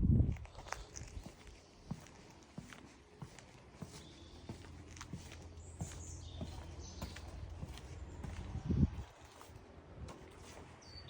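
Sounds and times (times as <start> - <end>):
soft footsteps: 0.3 - 10.8.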